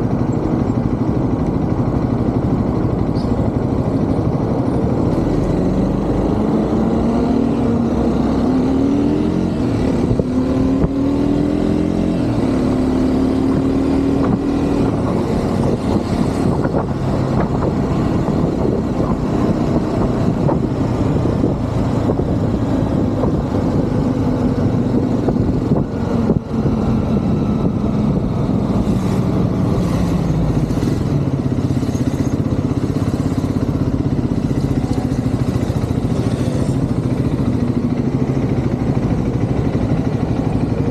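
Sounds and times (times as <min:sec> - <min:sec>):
city traffic: 0:00.0 - 0:40.9
motorcycle engine accelerating: 0:00.0 - 0:40.9.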